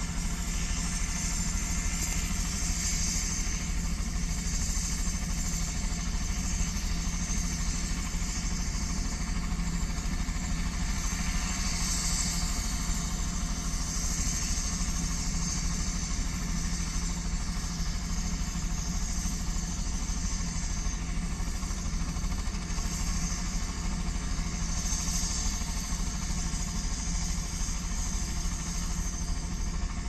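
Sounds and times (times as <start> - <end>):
helicopter engine and rotor: 0.0 - 30.0.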